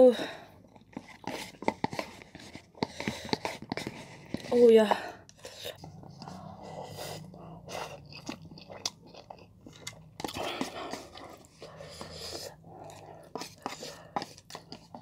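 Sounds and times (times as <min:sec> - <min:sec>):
chewing noodles: 0:00.3 - 0:04.6, 0:05.2 - 0:15.0.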